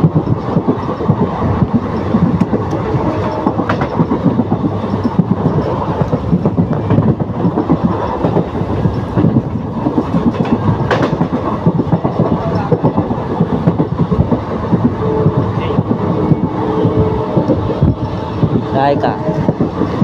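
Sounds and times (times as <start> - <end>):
train wheels clattering over rail joints: 0.0 - 20.0.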